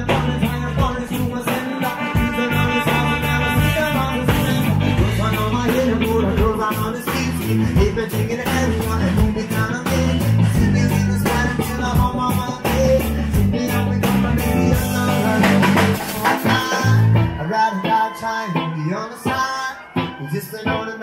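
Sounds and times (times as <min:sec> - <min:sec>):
low bass notes: 0:00.0 - 0:17.5
drum kit: 0:00.0 - 0:17.6
electric guitar: 0:00.0 - 0:21.0
man singing: 0:00.0 - 0:21.0.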